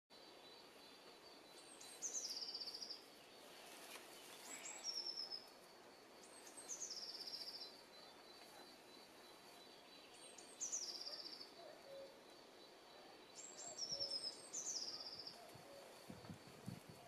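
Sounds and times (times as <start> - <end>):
songbird singing with trill: 0.1 - 3.6, 4.2 - 17.0
faint woodland background noise: 0.1 - 17.0.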